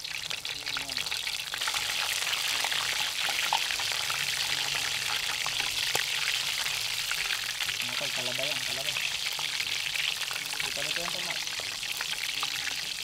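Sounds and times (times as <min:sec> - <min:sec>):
food deep-frying in hot oil: 0:00.0 - 0:13.0
oil crackling and popping: 0:00.0 - 0:13.0.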